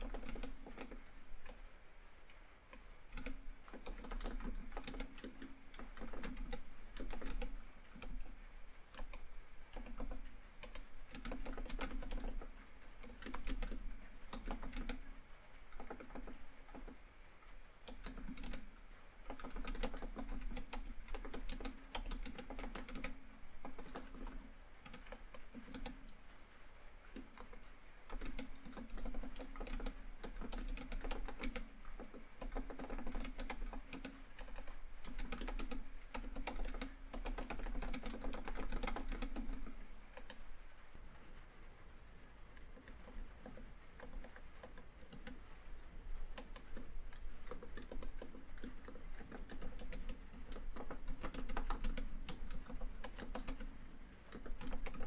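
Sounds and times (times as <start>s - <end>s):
laptop keyboard typing: 0.0s - 1.7s, 2.3s - 41.8s, 42.5s - 55.0s.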